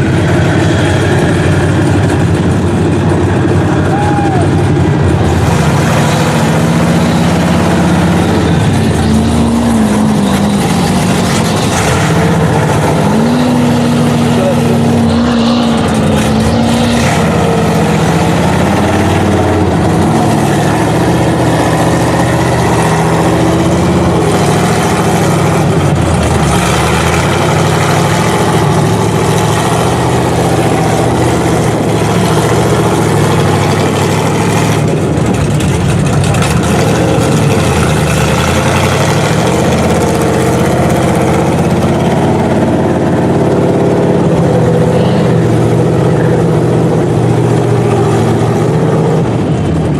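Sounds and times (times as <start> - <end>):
truck engines revving: 0.0 - 49.9.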